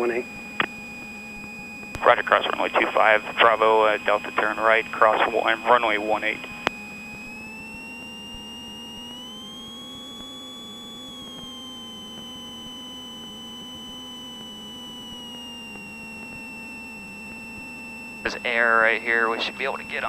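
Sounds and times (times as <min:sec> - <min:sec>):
high electrical whine: 0:00.0 - 0:20.0.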